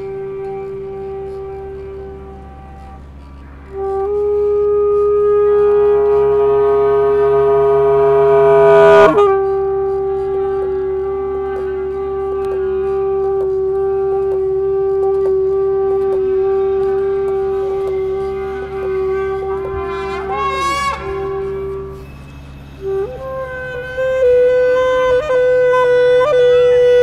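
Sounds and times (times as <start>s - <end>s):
saxophone holding long note: 0.0s - 27.0s.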